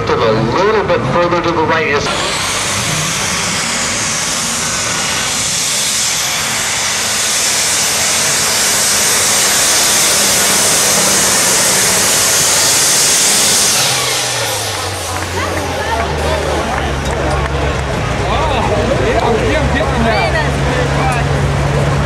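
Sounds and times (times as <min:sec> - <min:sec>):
pulling tractor engine roaring: 0:00.0 - 0:22.0.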